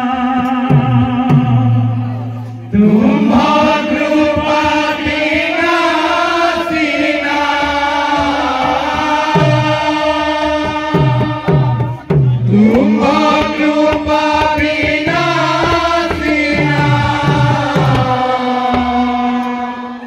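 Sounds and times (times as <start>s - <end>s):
drum bass strokes: 0.0s - 19.7s
group chanting in unison: 0.0s - 20.0s.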